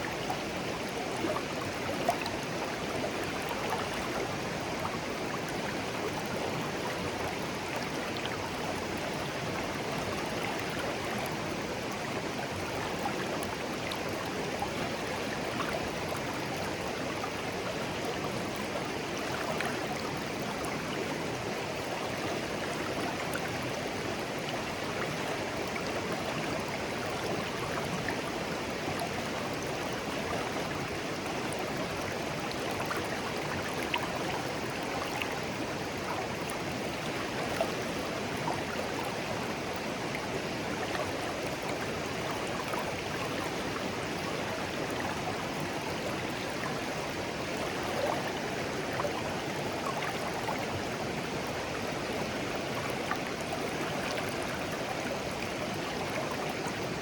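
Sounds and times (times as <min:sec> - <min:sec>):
stream burbling over stones: 0:00.0 - 0:57.0.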